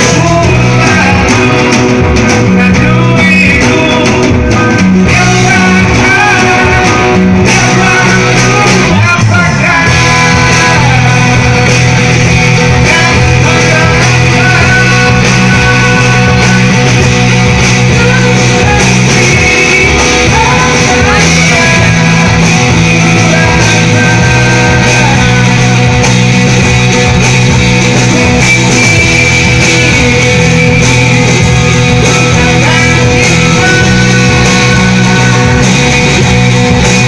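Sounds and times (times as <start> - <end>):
electric guitar: 0.0 - 37.0
live rock band playing: 0.0 - 37.0.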